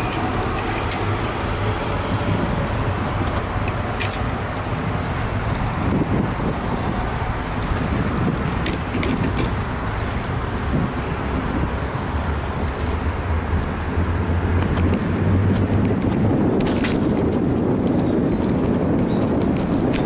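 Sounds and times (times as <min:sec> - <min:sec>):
road noise: 0:00.0 - 0:20.0
wind noise: 0:00.0 - 0:20.0.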